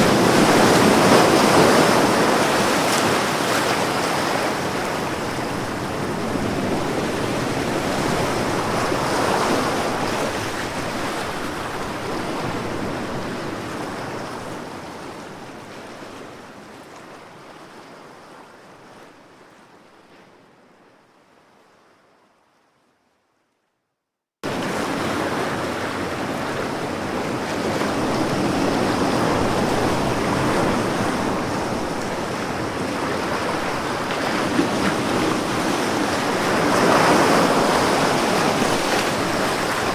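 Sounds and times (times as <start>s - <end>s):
ocean waves washing on shore: 0.0s - 19.7s, 24.4s - 39.9s.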